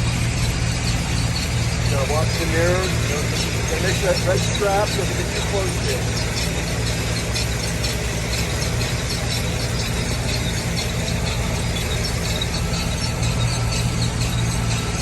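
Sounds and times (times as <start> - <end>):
rapid mechanical squeak: 0.0 - 15.0
truck engine running: 0.0 - 15.0.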